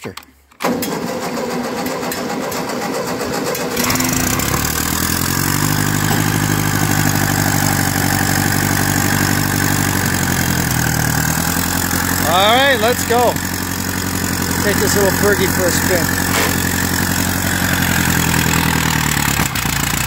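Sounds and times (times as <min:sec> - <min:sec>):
starter motor cranking: 0:00.6 - 0:20.0
tractor engine running: 0:00.6 - 0:20.0.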